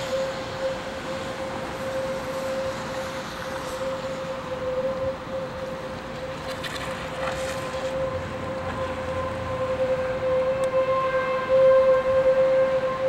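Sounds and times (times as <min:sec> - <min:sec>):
tornado warning siren: 0:00.0 - 0:13.0.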